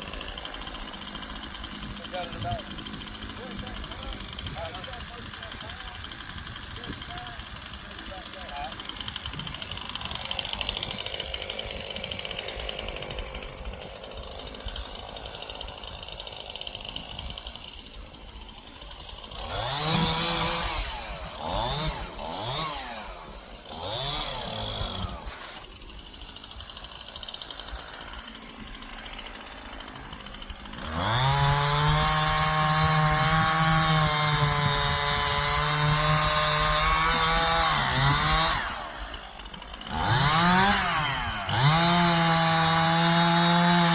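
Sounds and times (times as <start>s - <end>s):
chainsaw revving and cutting: 0.0s - 43.9s.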